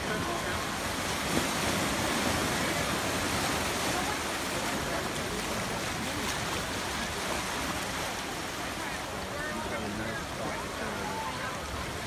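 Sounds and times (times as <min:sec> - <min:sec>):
ocean waves washing: 0:00.0 - 0:12.0.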